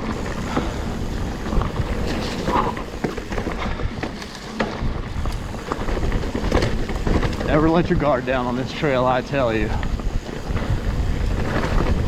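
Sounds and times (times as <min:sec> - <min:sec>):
bike rattling over roots: 0:00.0 - 0:12.0
bike tyres rolling on mud: 0:00.0 - 0:12.0.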